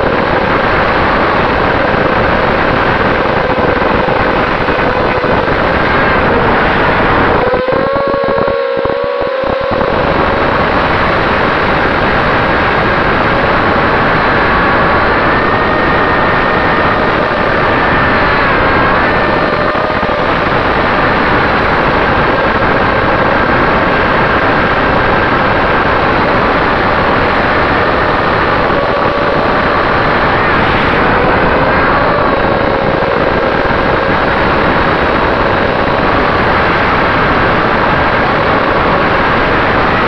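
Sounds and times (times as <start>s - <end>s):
propeller wash and wind rush: 0.0s - 40.0s
thin motor whine: 0.0s - 40.0s.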